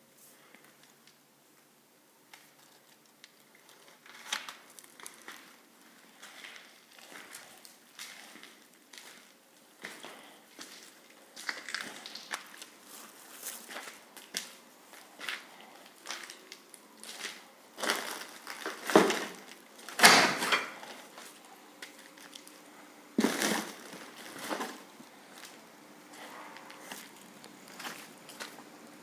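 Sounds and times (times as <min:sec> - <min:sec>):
footsteps crunching over debris: 0:02.4 - 0:29.0.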